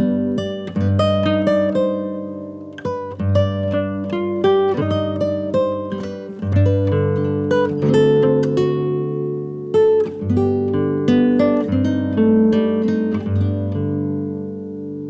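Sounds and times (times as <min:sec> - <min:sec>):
plucked string instrument: 0:00.0 - 0:15.0.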